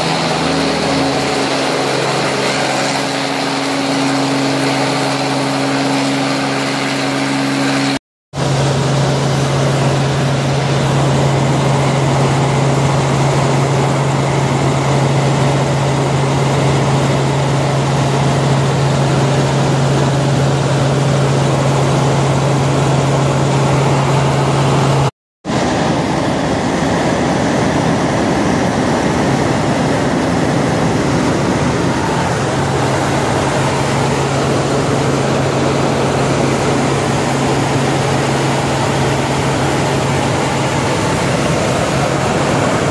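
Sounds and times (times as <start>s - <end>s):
helicopter in flight: 0.0s - 42.9s.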